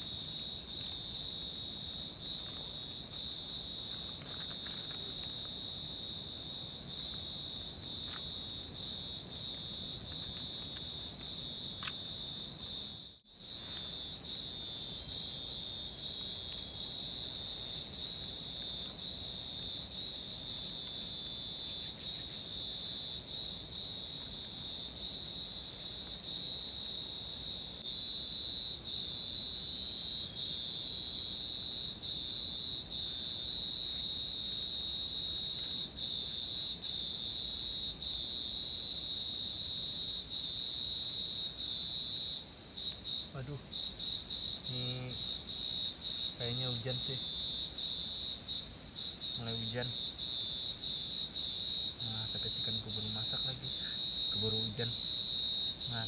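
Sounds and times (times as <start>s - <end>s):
insect trill: 0.0s - 56.0s
rapid ticking insect chirps: 0.0s - 56.0s.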